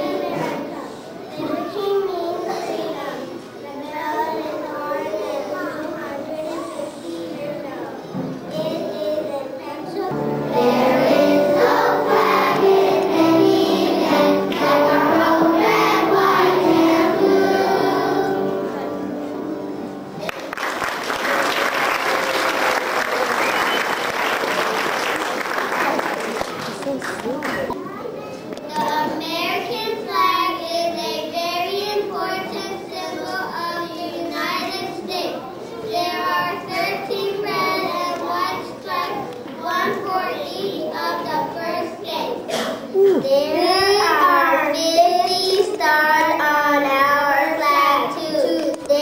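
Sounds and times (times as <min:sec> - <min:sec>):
children's choir singing: 0:00.0 - 0:06.1, 0:09.8 - 0:24.0, 0:28.7 - 0:42.7, 0:43.4 - 0:49.0.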